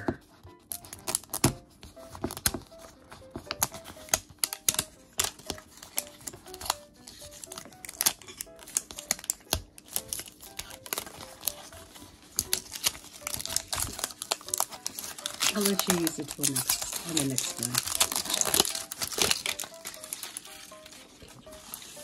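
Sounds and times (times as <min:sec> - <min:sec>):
soft background music: 0:00.0 - 0:22.0
plastic clicks and crinkles: 0:00.4 - 0:22.0.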